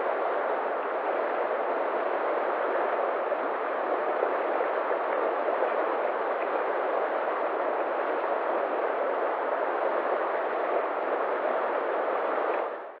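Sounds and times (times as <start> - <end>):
water rushing over rapids: 0.0 - 13.0.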